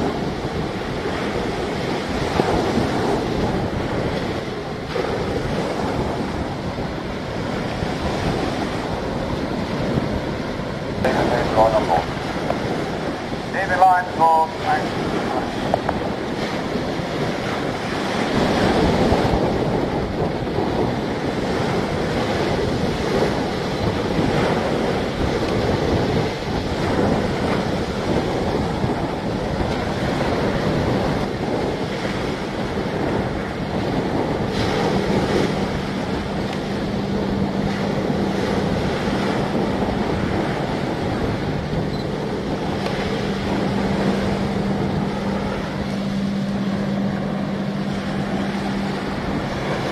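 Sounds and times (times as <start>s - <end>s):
steady low hum: 0.0s - 49.9s
wind buffeting microphone: 0.0s - 49.9s.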